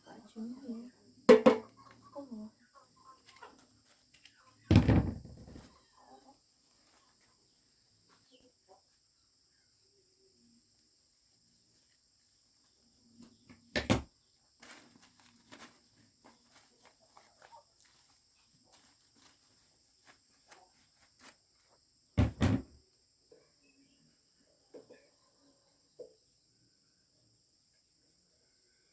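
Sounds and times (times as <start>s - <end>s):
crickets droning: 0.0s - 28.9s.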